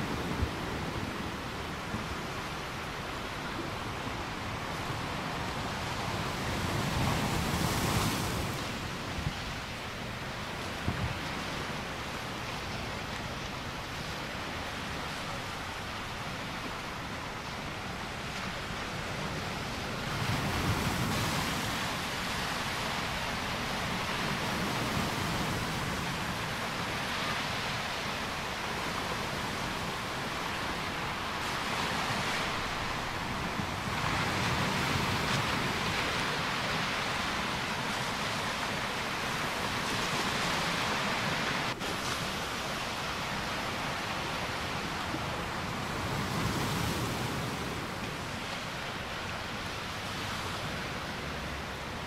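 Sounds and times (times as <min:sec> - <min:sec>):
waves breaking on a beach: 0:00.0 - 0:52.0.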